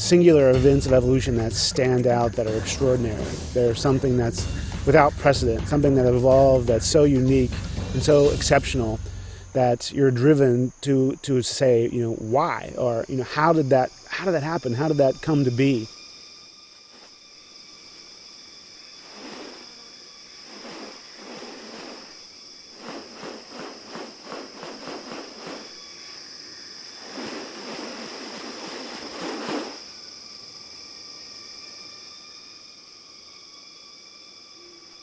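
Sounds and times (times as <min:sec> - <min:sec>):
insects droning high-pitched: 0:00.0 - 0:35.0.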